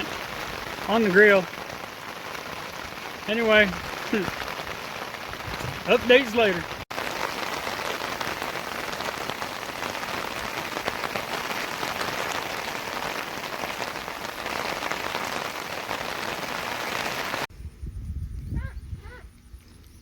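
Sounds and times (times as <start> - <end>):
steady rain falling: 0.0 - 17.5.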